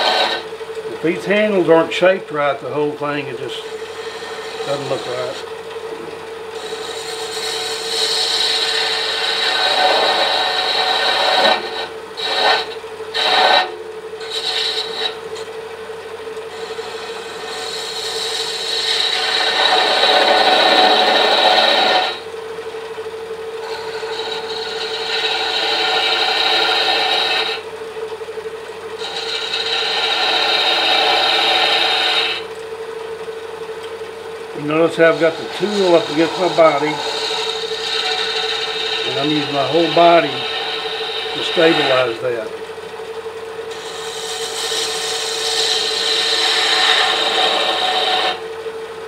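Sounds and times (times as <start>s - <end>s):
turning tool shaving wood: 0.0s - 49.0s
wood lathe humming: 0.0s - 49.0s.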